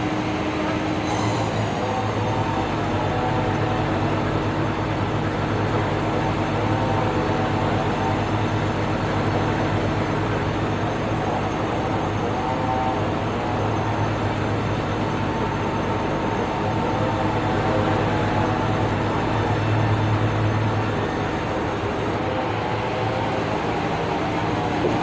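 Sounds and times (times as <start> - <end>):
band saw whine: 0.0 - 25.0
band saw humming: 1.1 - 25.0.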